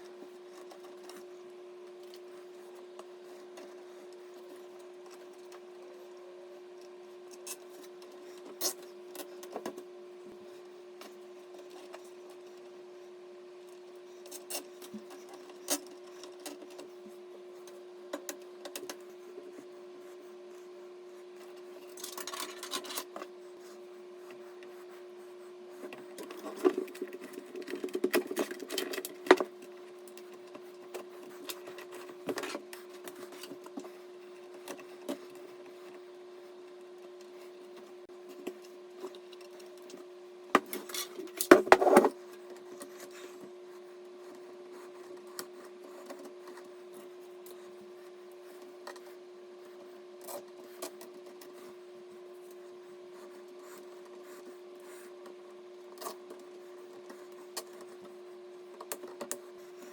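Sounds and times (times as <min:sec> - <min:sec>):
rubbing and scraping handling noise: 0:00.0 - 0:59.9
steady low hum: 0:00.0 - 0:59.9.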